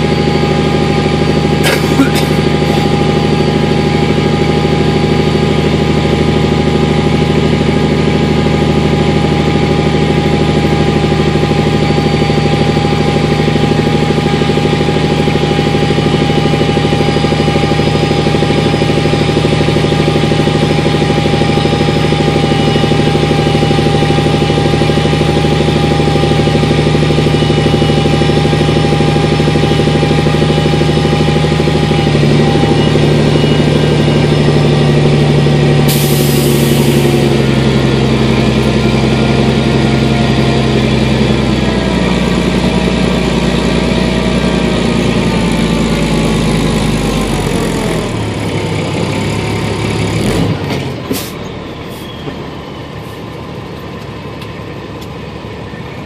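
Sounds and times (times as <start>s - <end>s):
truck engine droning with whine: 0.0s - 56.0s.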